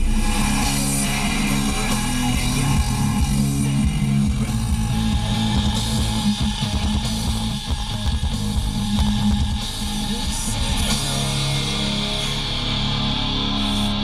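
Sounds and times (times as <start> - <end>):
rock music on car radio: 0.0 - 14.0.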